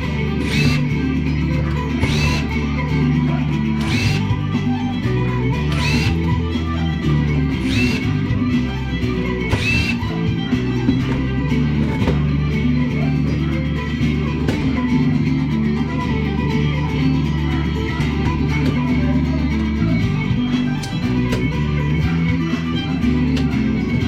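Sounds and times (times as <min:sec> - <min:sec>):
bass line: 0:00.0 - 0:24.0
guitar: 0:00.0 - 0:24.0.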